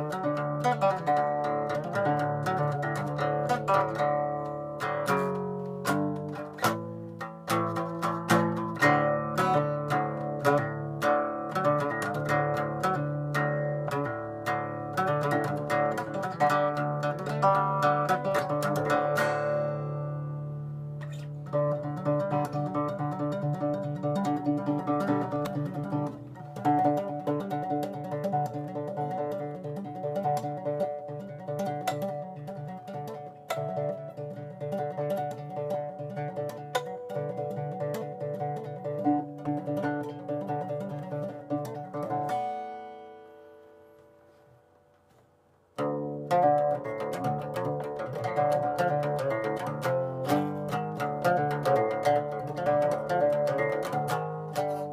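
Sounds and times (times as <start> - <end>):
acoustic guitar picking: 0.0 - 45.2, 45.8 - 54.9.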